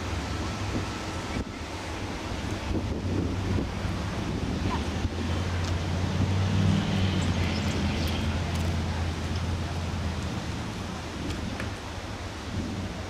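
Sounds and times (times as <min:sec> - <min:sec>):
streetcar humming: 0:00.0 - 0:13.0
wind noise on microphone: 0:00.0 - 0:13.0.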